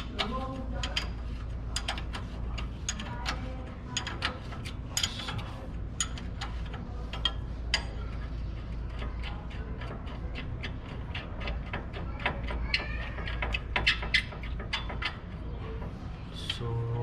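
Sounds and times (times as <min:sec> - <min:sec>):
ratchet wrench clicking: 0:00.0 - 0:15.4.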